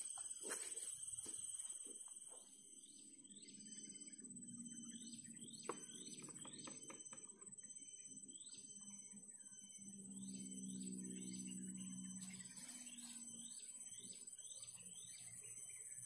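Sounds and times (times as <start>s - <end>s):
high-pitched whine: 0.0s - 16.0s
low hum: 0.0s - 16.0s
birds chirping: 2.6s - 16.0s.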